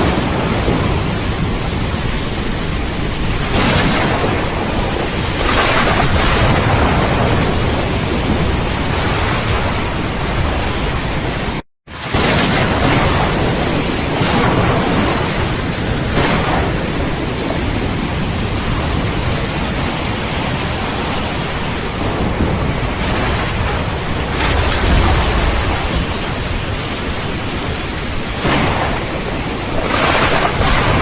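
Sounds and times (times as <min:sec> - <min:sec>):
heavy rain: 0:00.0 - 0:31.0
rolling thunder: 0:00.0 - 0:31.0.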